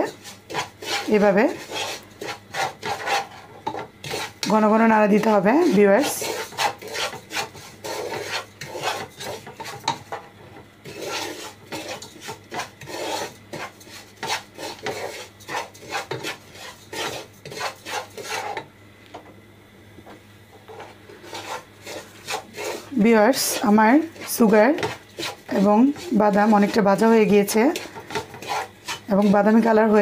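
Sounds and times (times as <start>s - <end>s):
wooden spatula scraping a pan: 0.0s - 18.7s, 20.6s - 30.0s.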